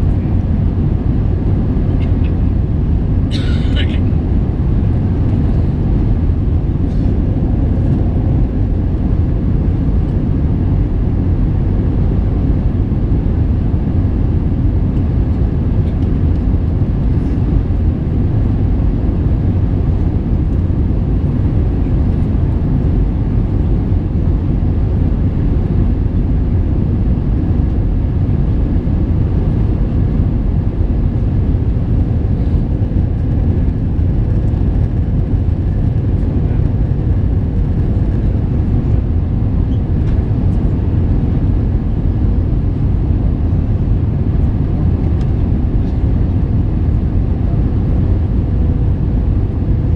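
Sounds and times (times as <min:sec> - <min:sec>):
jet engines droning: 0:00.0 - 0:49.9.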